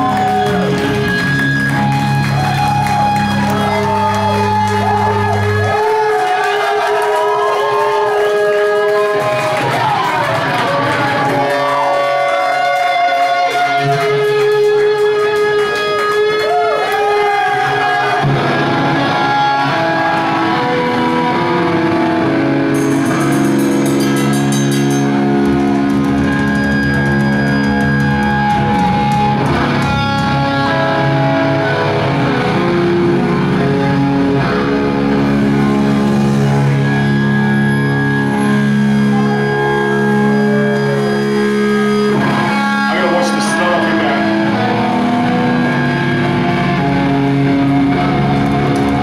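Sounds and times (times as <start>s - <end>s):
distorted electric guitars: 0.0s - 49.0s
heavy metal band playing: 0.0s - 49.0s.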